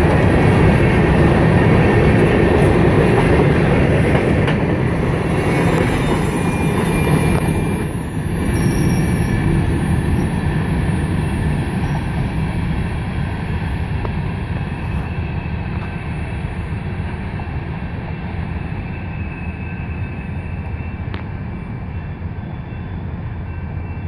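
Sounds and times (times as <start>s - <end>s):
freight train rumbling: 0.0s - 24.0s.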